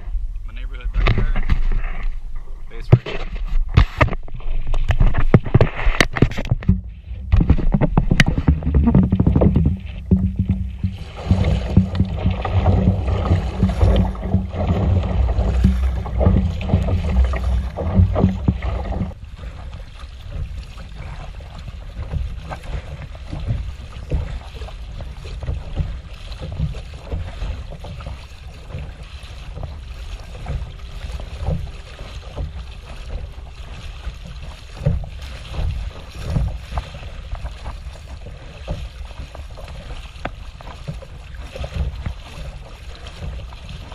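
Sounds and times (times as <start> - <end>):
water splashing against hull: 0.0 - 43.9
wind rumbling on microphone: 0.0 - 43.9.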